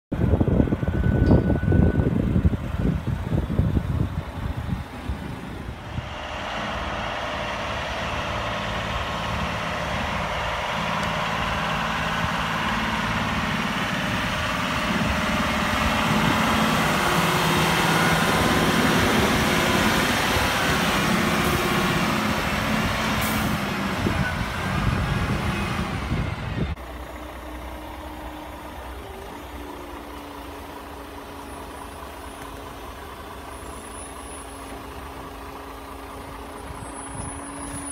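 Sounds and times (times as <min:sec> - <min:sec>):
truck diesel engine working hard: 0:00.1 - 0:37.9.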